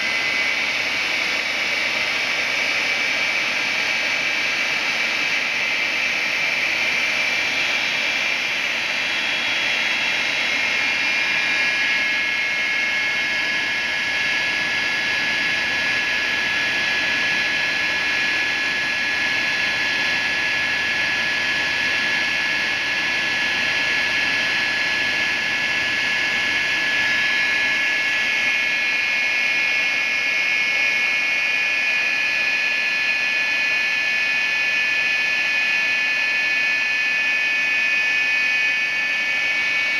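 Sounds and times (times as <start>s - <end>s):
turbojet engine whine: 0.0s - 39.9s.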